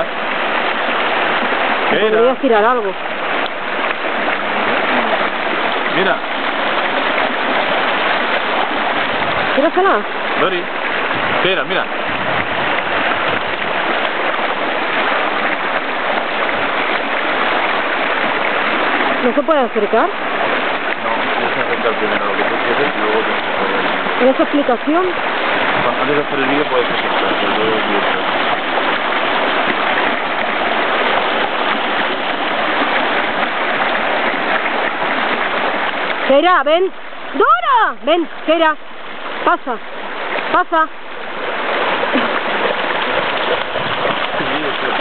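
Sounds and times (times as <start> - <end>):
stream rushing over stones: 0.0 - 45.0.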